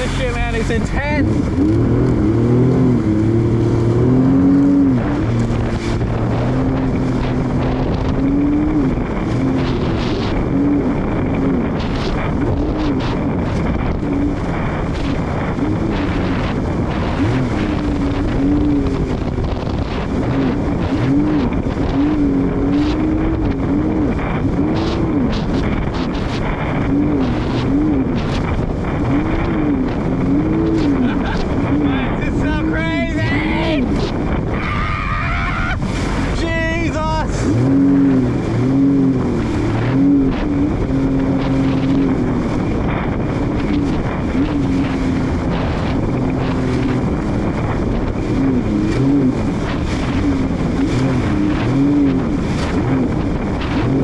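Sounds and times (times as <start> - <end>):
jet ski engine running hard: 0.0 - 54.0
wind buffeting microphone: 0.0 - 54.0.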